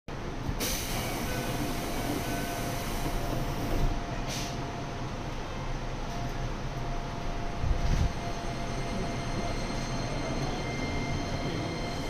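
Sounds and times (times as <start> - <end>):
electric train rumble: 0.1 - 12.0.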